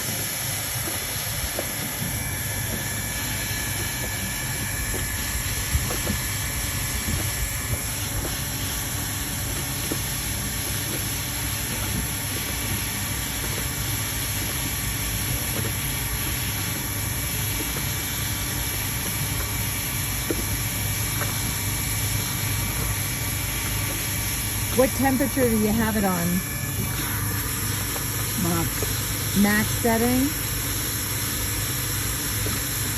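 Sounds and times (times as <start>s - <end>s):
faint steady whine: 0.0s - 32.9s.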